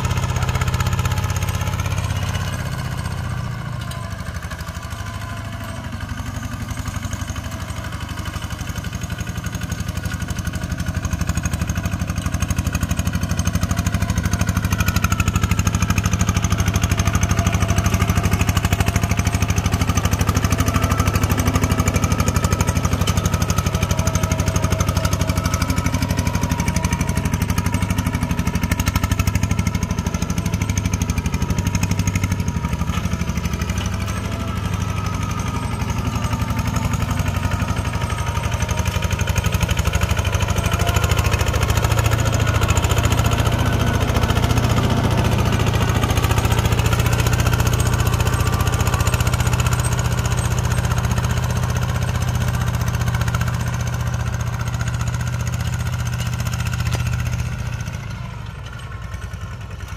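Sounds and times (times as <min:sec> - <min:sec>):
diesel tractor engine chugging: 0:00.0 - 0:59.9.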